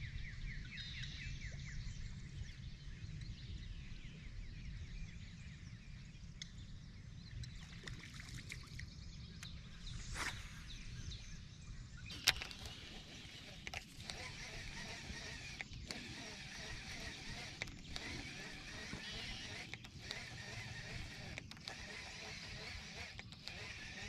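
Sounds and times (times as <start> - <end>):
birds chirping: 0.1 - 24.0
wind on microphone: 1.6 - 24.0.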